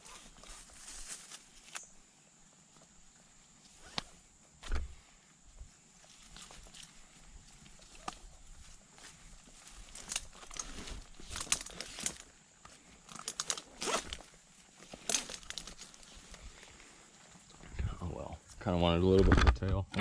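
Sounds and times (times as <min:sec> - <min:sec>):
climbing spikes crunching into bark: 0:00.0 - 0:19.6.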